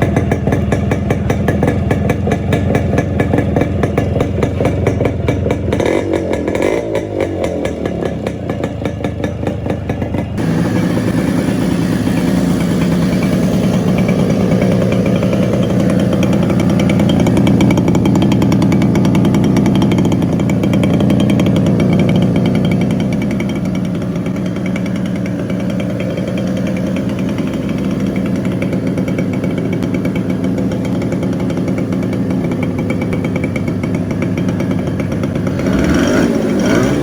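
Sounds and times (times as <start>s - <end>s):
two-stroke engine revving: 0.0s - 37.0s.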